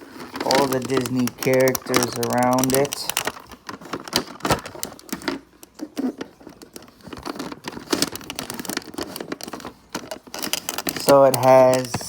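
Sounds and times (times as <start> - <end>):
plastic mobile clicking and rustling: 0.0 - 12.0.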